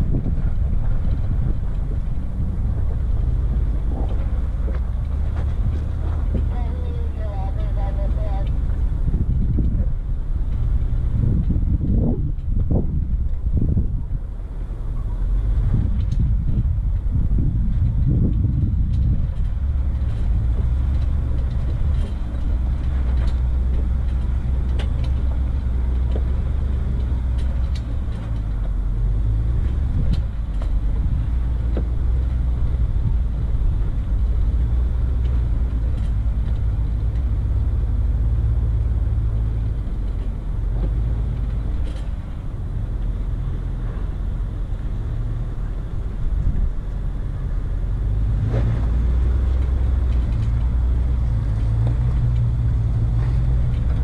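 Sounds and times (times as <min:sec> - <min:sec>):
vehicle engine running low: 0:00.0 - 0:54.0.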